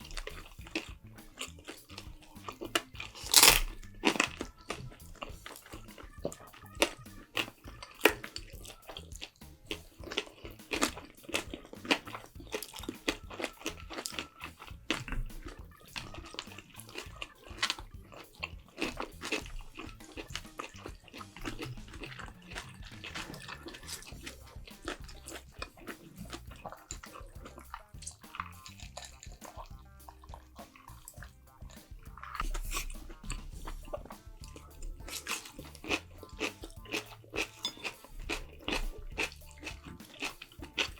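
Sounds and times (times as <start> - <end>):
chewing and biting food: 0.0 - 40.9
wet mouth clicks and smacks: 0.0 - 40.9.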